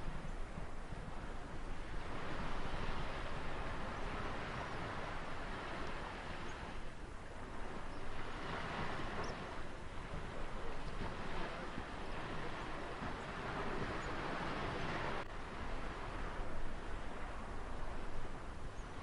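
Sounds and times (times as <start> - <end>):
ocean waves washing on shore: 0.0 - 19.0.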